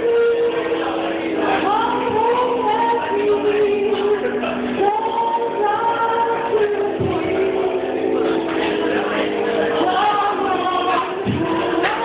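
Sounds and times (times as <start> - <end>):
backing music: 0.0 - 12.0
woman singing into a microphone: 0.0 - 12.0.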